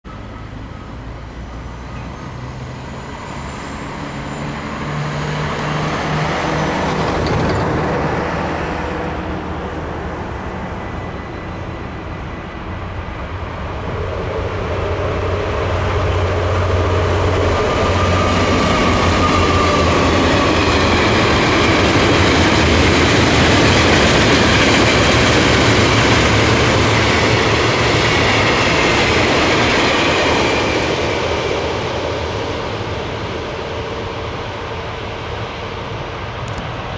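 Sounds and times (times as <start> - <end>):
diesel locomotive drone: 0.1 - 36.9
engine hum: 0.1 - 36.9
train wheels rumbling on rail: 0.1 - 36.9.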